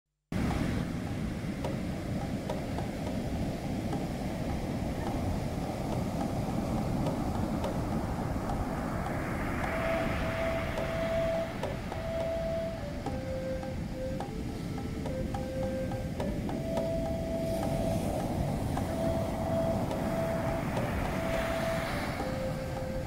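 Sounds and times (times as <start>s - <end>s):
ocean surf breaking on sand: 0.4s - 23.0s.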